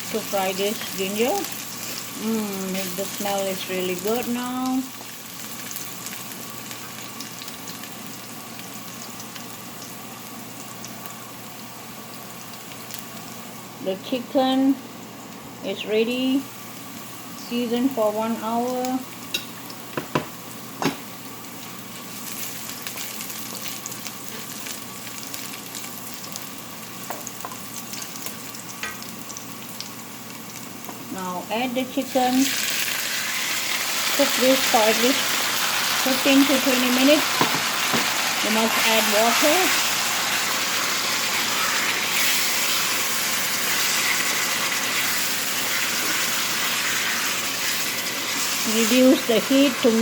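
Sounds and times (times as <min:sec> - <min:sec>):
ginger sizzling in hot oil: 0:00.0 - 0:14.2, 0:15.2 - 0:50.0.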